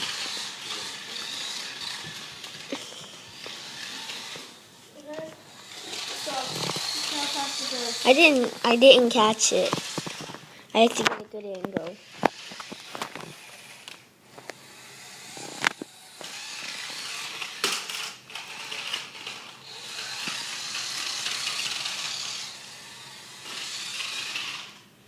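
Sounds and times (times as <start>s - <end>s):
toy car motor whirring: 0.0s - 24.9s.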